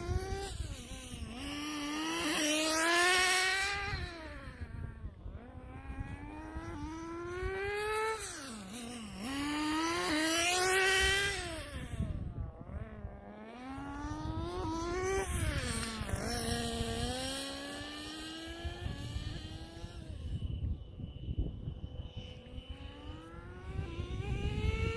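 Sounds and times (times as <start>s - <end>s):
rc car engine buzzing: 0.0s - 24.9s.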